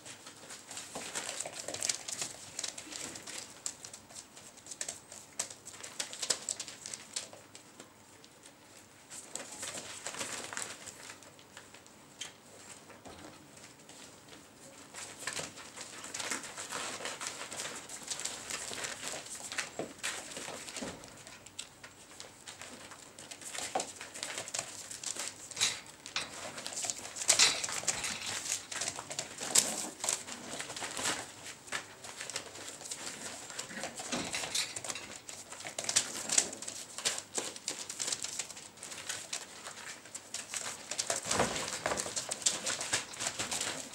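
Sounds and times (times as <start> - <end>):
plastic sheet rustling: 0.0 - 7.8, 8.6 - 11.9, 13.6 - 43.9.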